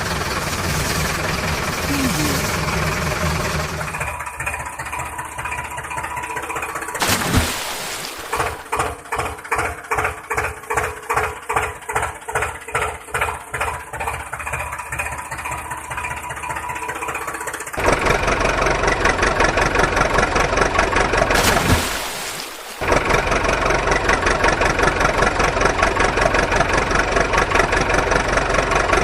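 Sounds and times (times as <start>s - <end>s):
engine chugging: 0.0s - 7.0s, 8.6s - 21.4s, 22.8s - 29.0s
engine running steadily: 0.0s - 29.0s.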